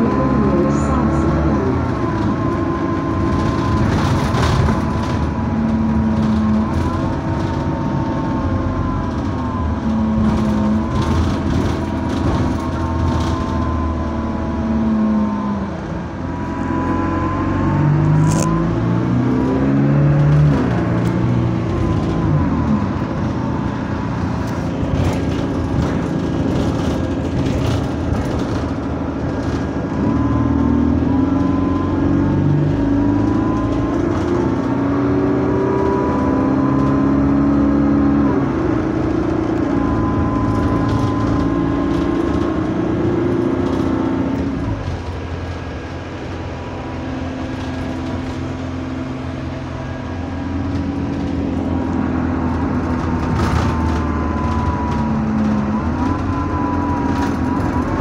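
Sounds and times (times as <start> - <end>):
bus engine revving: 0.0 - 58.0
rising and falling whine: 0.0 - 58.0.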